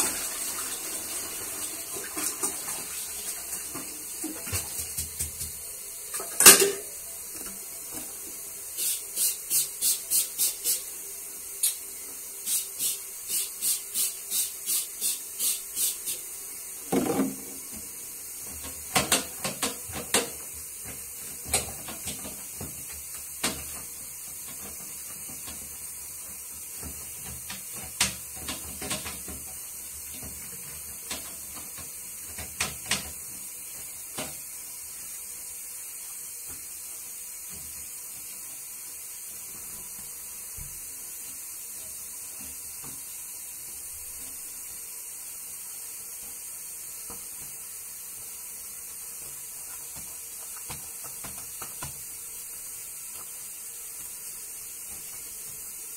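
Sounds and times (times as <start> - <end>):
steady hiss: 0.0 - 55.9
cloth wiping toilet: 7.0 - 55.9.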